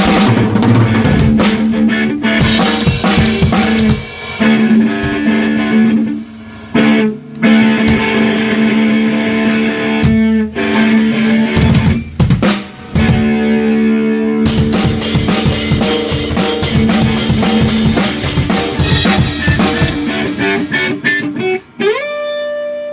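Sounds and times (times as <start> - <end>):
sustained guitar chords: 0.0 - 12.1, 12.7 - 22.9
drum kit beat: 0.0 - 21.7
rock band music: 0.0 - 22.9.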